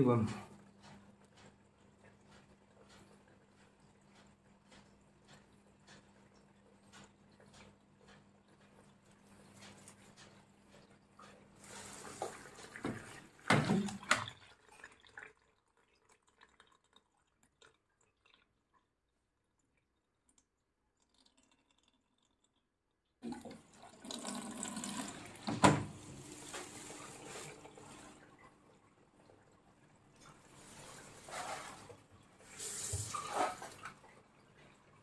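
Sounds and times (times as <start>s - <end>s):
water running in washing machine: 0.0s - 22.6s, 23.2s - 35.0s.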